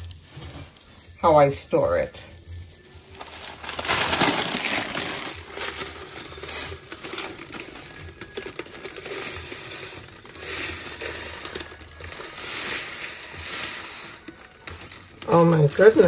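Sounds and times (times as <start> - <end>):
paper crinkling: 0.0 - 16.0
powder pouring into glass jar: 3.1 - 16.0.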